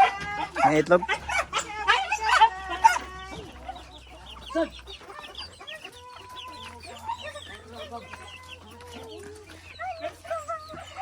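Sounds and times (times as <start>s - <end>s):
chickens clucking and calling: 0.0s - 11.0s.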